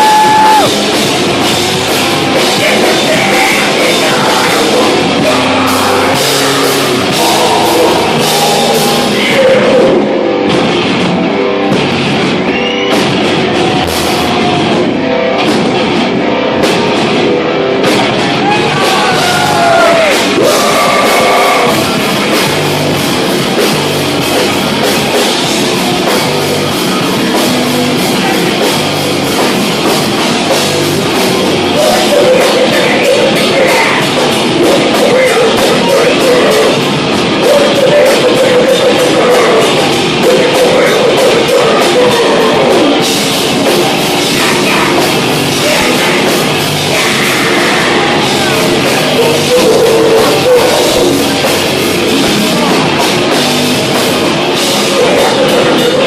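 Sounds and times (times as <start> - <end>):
distorted electric guitars: 0.0 - 56.0
rapid heavy drumming: 0.0 - 56.0.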